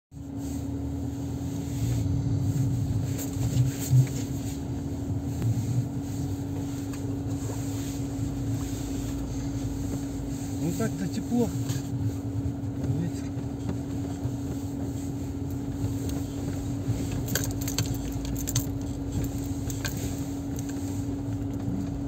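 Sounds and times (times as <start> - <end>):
steady low hum: 0.2 - 22.0.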